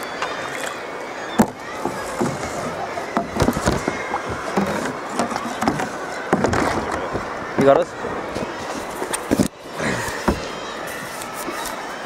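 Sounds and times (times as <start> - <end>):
sea: 0.0 - 12.0
wind: 0.0 - 12.0.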